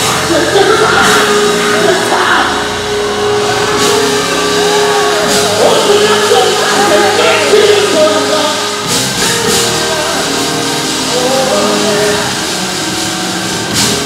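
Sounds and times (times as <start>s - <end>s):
band playing: 0.0s - 14.0s
held steady note: 0.0s - 14.0s
vocalists singing gospel: 0.0s - 14.0s.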